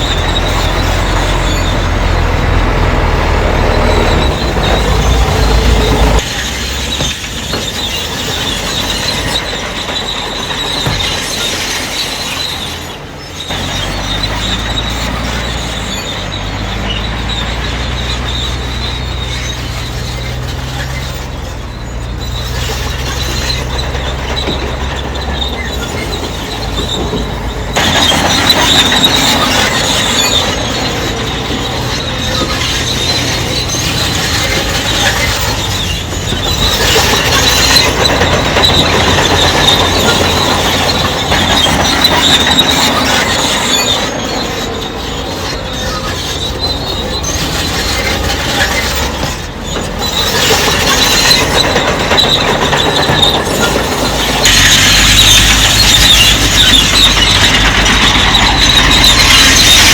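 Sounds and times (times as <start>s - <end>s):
diesel engine drone: 0.0s - 59.9s
steel tracks squealing: 0.0s - 59.9s.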